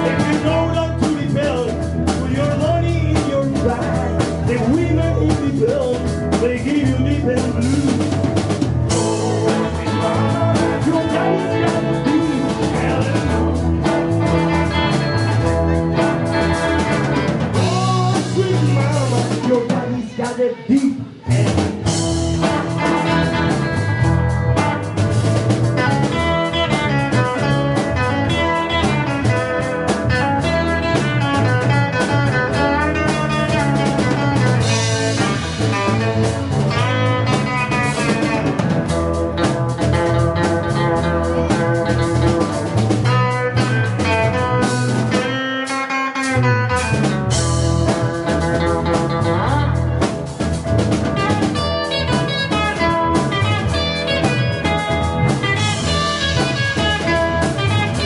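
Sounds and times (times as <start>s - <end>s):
drum kit: 0.0s - 58.0s
electric bass: 0.0s - 58.0s
electric guitars: 0.0s - 58.0s.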